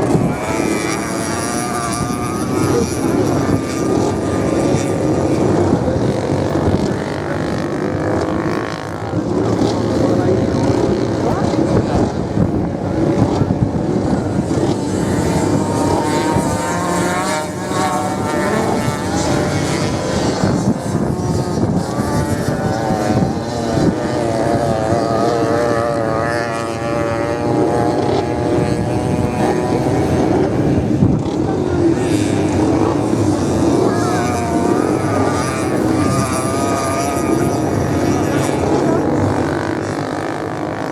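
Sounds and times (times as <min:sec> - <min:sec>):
racing motorcycle engines revving: 0:00.0 - 0:40.9.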